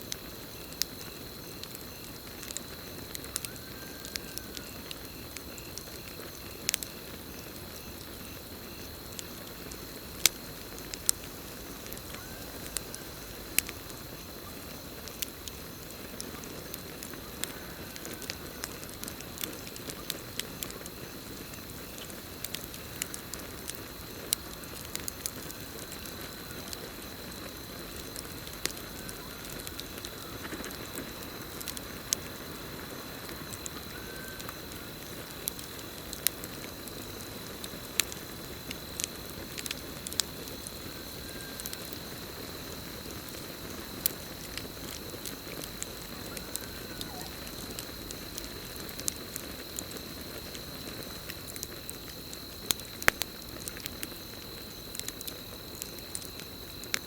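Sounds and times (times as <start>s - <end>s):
campfire crackling and popping: 0.0s - 57.0s
crickets trilling: 0.0s - 57.0s.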